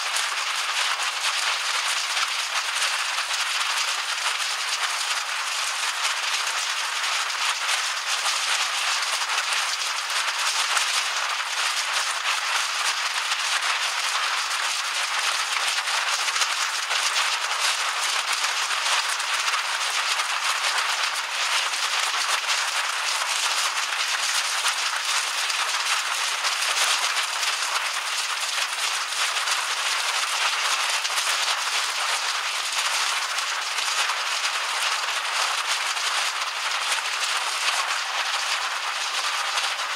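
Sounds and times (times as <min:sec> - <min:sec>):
hail and heavy rain pelting concrete: 0:00.0 - 0:39.9.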